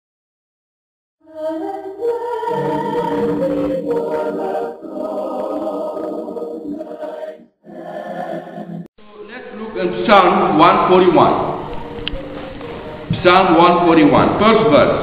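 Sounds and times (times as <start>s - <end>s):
choir singing held chords: 1.2s - 8.9s, 10.2s - 15.0s.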